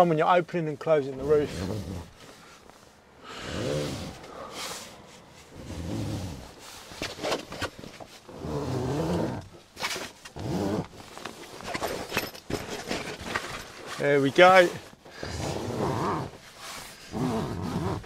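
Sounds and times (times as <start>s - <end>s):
canvas rustling: 3.6s - 18.0s.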